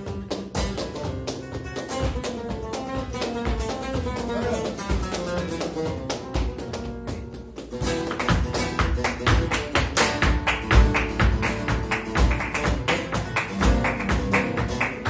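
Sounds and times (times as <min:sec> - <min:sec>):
flamenco guitar playing: 0:00.0 - 0:15.0
rhythmic hand clapping: 0:00.0 - 0:15.0.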